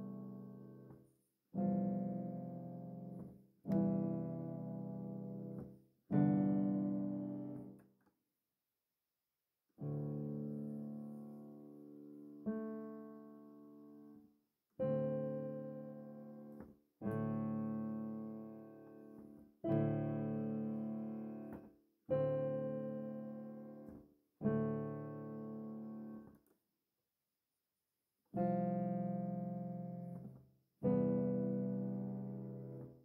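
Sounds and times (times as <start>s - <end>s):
slow piano chords: 0.0s - 1.0s, 1.6s - 7.8s, 9.8s - 14.2s, 14.8s - 26.3s, 28.4s - 33.0s.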